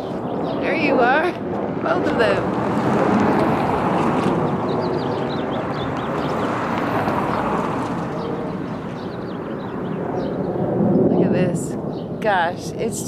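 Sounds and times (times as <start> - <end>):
small birds chirping: 0.0 - 1.3, 3.0 - 13.0
aircraft flying overhead: 0.0 - 13.0.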